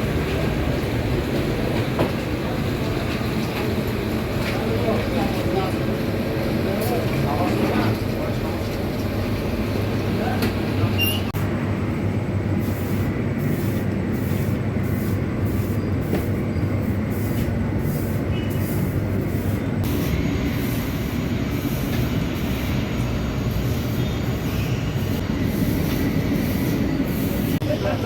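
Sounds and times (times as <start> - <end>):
bakery machinery rumbling: 0.0 - 28.0.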